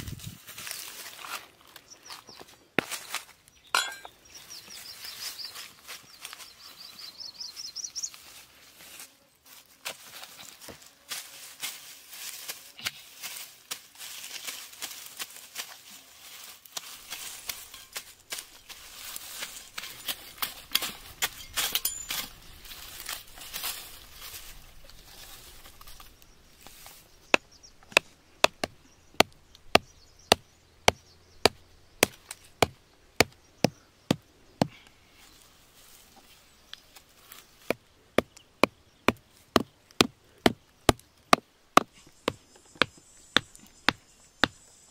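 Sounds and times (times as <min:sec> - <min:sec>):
dry grass and leaves rustling: 0:00.0 - 0:44.9.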